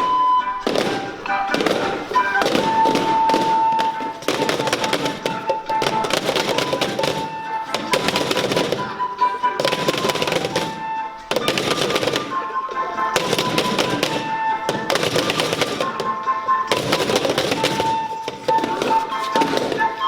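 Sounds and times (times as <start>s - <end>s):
dance music: 0.0s - 20.0s.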